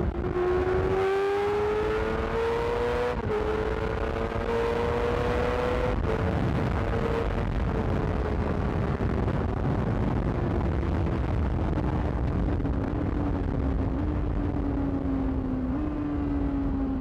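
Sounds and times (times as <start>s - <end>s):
wind and road noise rumble: 0.0s - 17.0s.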